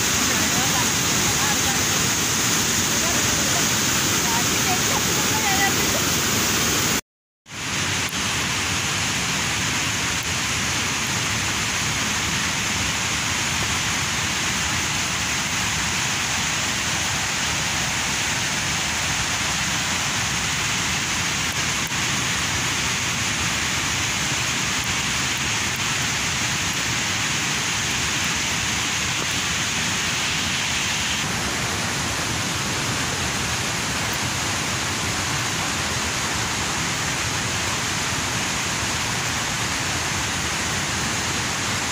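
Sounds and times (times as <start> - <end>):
rushing water hiss: 0.0 - 41.9.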